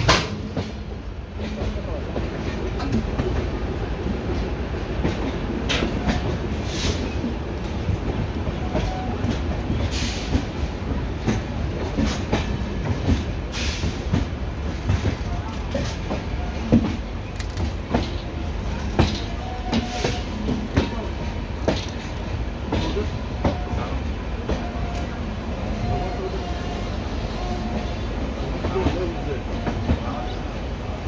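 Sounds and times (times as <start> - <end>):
wheels clacking over rail joints: 0.0 - 25.2
train rumbling on track: 0.0 - 31.0.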